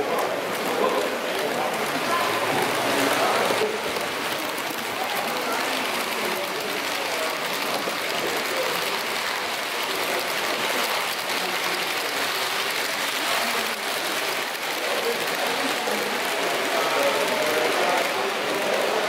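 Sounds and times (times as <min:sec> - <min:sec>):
model train wheels on rails: 0:00.0 - 0:19.0
murmur of voices: 0:00.0 - 0:19.0.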